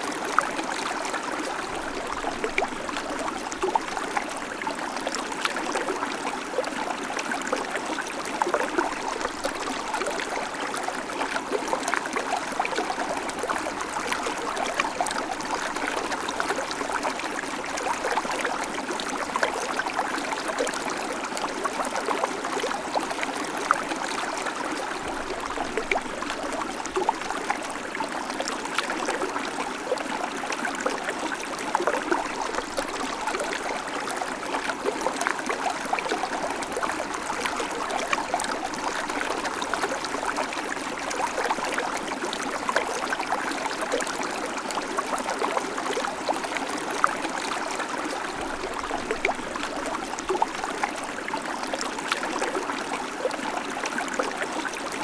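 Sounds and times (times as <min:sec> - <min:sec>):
creek water trickling over stones: 0:00.0 - 0:55.0.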